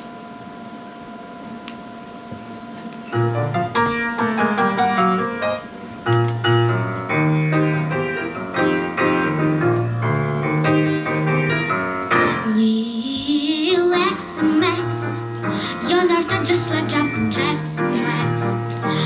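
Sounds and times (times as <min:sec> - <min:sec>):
piano playing chords: 0:00.0 - 0:19.0.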